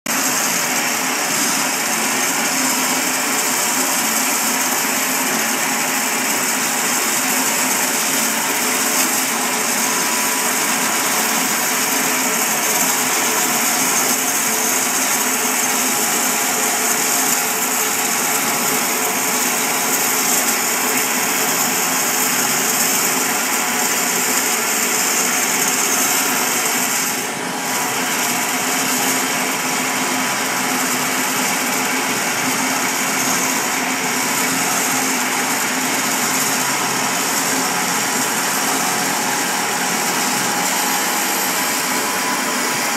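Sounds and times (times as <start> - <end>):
bandsaw cutting log: 0.1 - 42.9.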